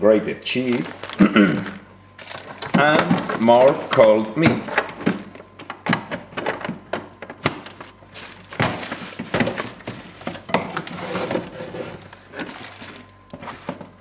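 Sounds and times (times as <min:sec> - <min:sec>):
plastic wrappers crinkling: 0:00.5 - 0:13.7.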